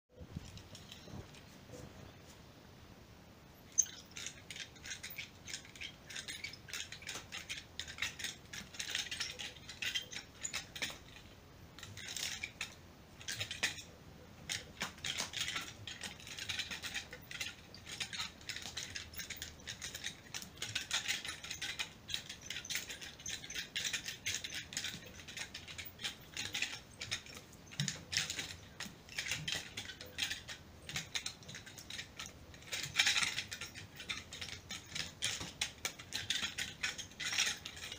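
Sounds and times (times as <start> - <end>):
nunchuck chain rattling: 3.7 - 37.9.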